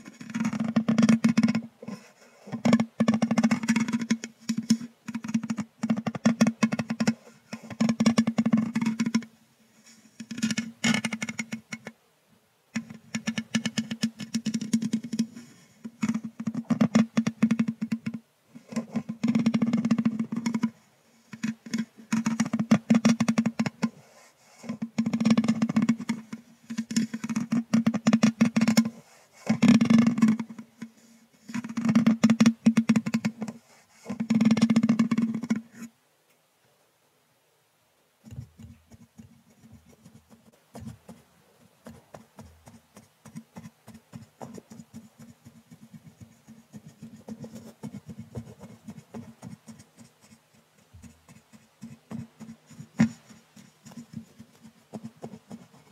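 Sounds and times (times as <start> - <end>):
brush scratching microphone grille: 0.0 - 11.9, 12.8 - 35.9, 38.2 - 55.9.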